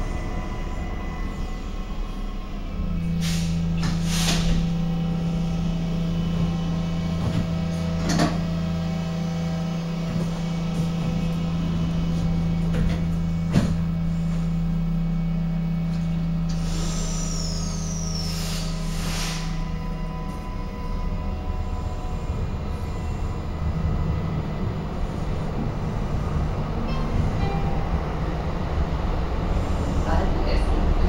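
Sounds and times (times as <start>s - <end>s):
train electrical hum: 0.0s - 31.0s.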